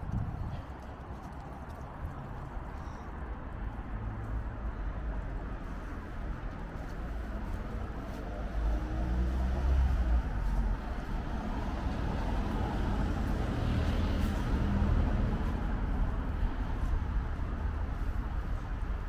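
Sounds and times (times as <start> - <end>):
car passing on road: 0.0 - 19.0
street noise: 0.0 - 19.0
wind rumbling on microphone: 0.0 - 19.0.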